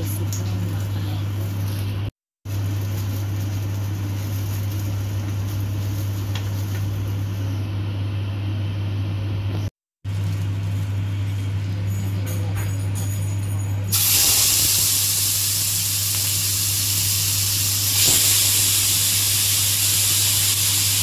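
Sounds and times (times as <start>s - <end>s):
fan motor hum and rushing: 0.0s - 21.0s.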